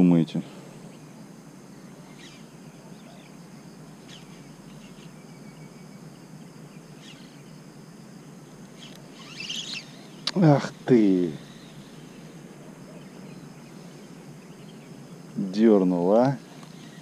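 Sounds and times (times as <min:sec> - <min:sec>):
faint bird chirps: 0:00.0 - 0:17.0
high insect drone: 0:00.0 - 0:17.0.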